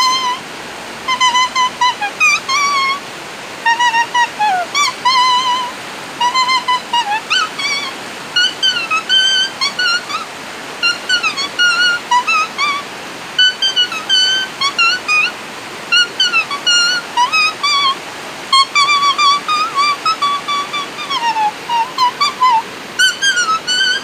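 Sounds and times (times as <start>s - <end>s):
leaf whistle melody: 0.0s - 0.4s, 1.1s - 3.0s, 3.6s - 24.0s
river rapids rushing: 0.0s - 24.0s.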